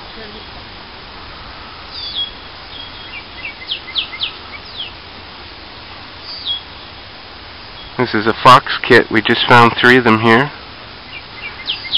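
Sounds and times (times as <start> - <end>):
songbird calls: 0.0 - 11.9
steady outdoor hiss: 0.0 - 11.9.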